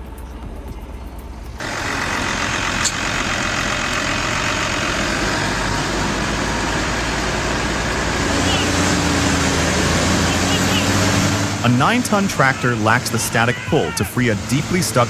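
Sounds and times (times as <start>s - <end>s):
dense rushing noise: 0.0s - 15.0s
heavy machinery engine running: 0.0s - 15.0s.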